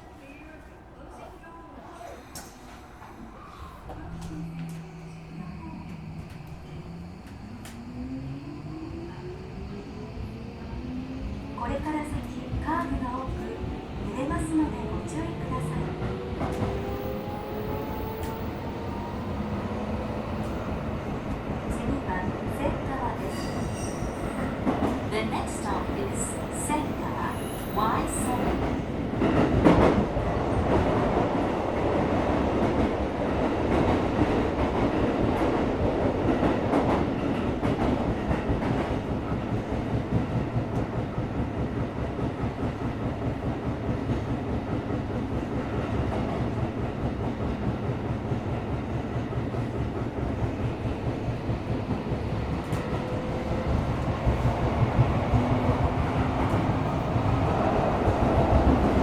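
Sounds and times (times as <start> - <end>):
subway train wheels rumbling: 0.0 - 59.0.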